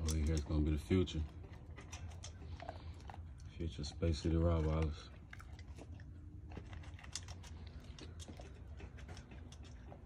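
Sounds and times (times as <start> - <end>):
low steady hum: 0.0 - 10.0
puppy crunching kibble in metal bowl: 0.0 - 10.0.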